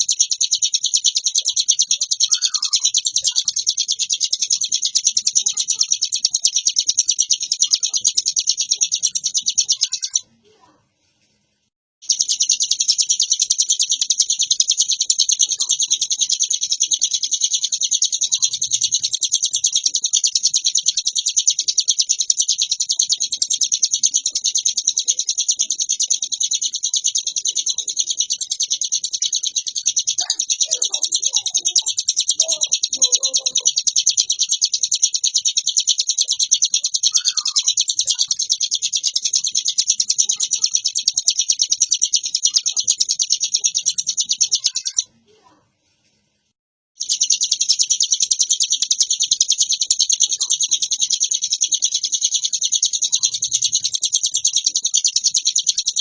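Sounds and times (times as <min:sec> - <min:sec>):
bird singing rapid trill: 0:00.0 - 0:10.7, 0:12.0 - 0:45.5, 0:47.0 - 0:56.0.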